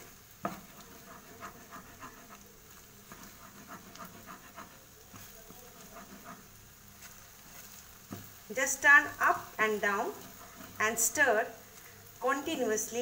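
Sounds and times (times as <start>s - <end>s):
spatula scraping frying pan: 0.0s - 11.3s
faint sizzle: 0.0s - 13.0s.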